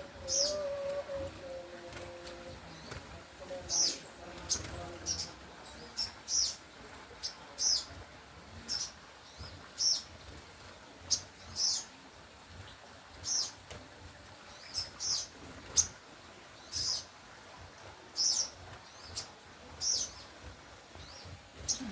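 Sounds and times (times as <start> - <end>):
songbird chirping: 0.0 - 21.9.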